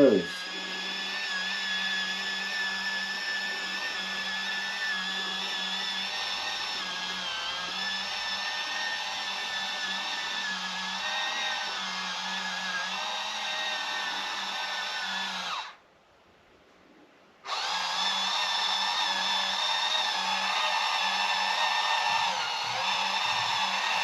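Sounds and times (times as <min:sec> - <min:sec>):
small washing machine motor whining: 0:00.0 - 0:15.8, 0:17.5 - 0:24.0.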